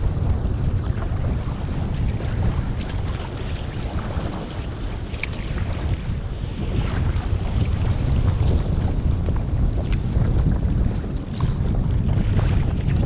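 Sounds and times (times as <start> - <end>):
sea water splashing: 0.0 - 13.0
wind buffeting microphone: 0.0 - 13.0.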